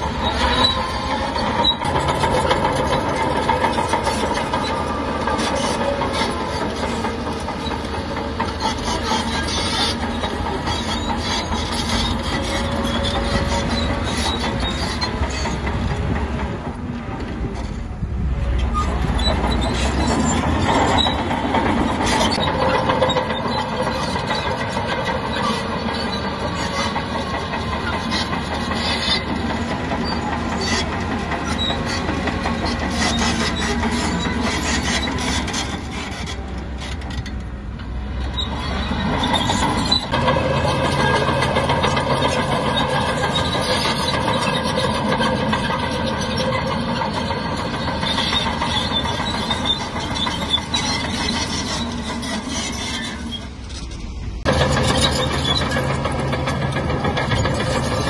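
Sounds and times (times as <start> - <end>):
bulldozer diesel engine: 0.0 - 58.0
metallic clatter of tracks: 0.0 - 58.0.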